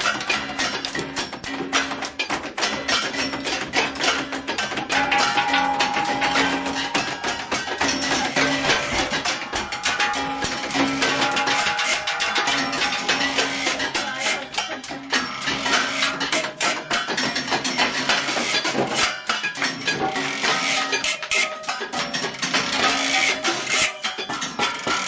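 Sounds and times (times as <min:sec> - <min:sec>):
drumming on kitchen objects: 0:00.0 - 0:25.0.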